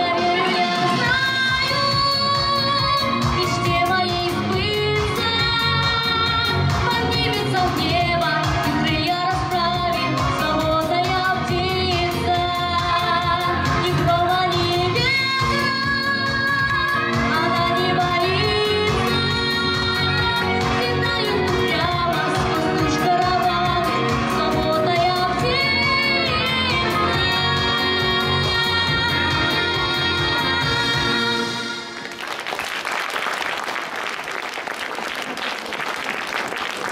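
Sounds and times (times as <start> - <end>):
girl singing into microphone: 0.0 - 31.9
instrumental pop accompaniment: 0.0 - 32.3.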